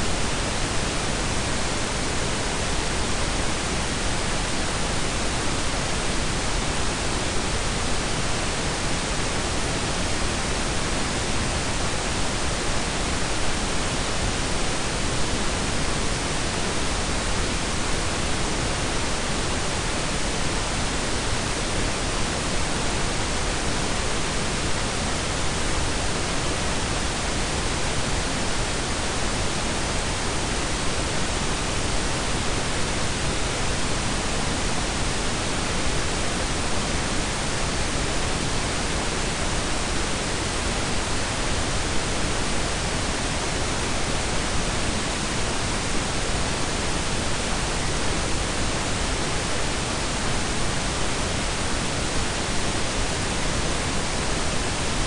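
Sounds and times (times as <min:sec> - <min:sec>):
steady noise hiss: 0:00.0 - 0:55.0.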